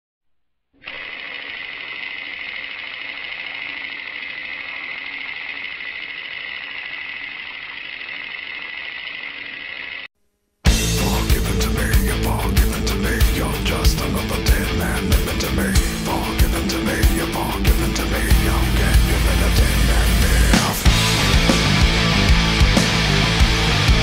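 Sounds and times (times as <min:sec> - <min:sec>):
machine running: 0:00.8 - 0:10.1, 0:10.7 - 0:24.0.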